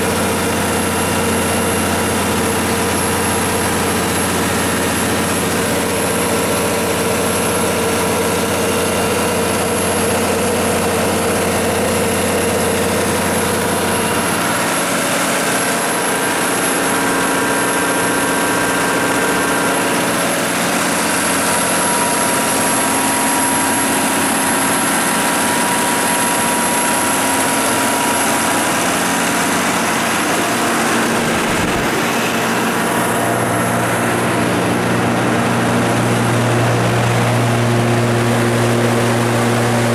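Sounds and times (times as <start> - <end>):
diesel generator humming: 0.0 - 39.9.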